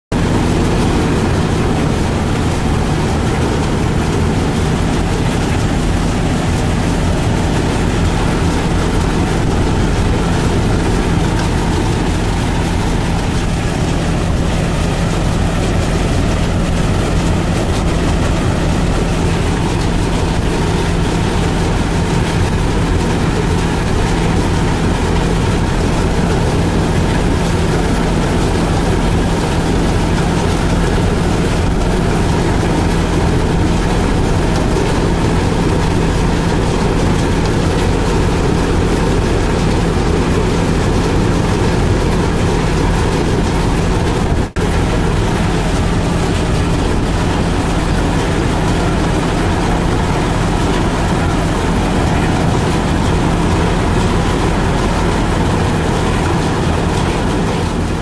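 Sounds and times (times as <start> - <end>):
combine harvester engine drone: 0.0 - 58.0
grain pouring hiss: 0.2 - 58.0.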